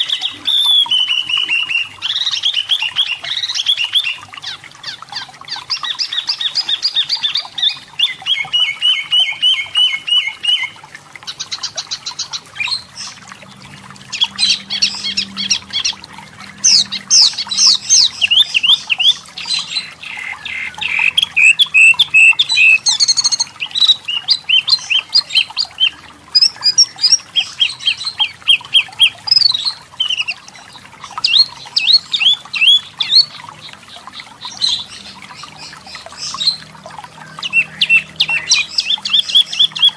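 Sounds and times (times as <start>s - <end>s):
bird chirping and trilling: 0.0s - 13.4s, 14.0s - 39.9s.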